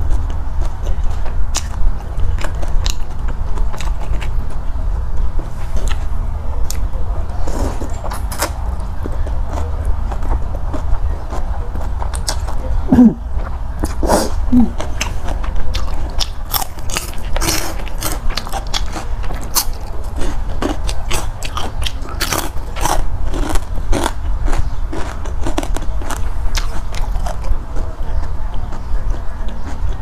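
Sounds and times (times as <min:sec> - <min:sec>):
chewing crisp food: 0:00.0 - 0:30.0.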